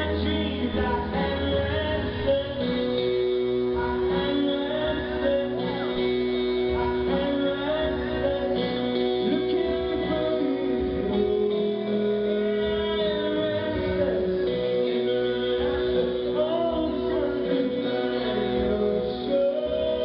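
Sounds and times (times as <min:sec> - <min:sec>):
guitar: 0:00.0 - 0:20.0
live band music through speakers: 0:00.0 - 0:20.0
person singing: 0:00.0 - 0:20.0.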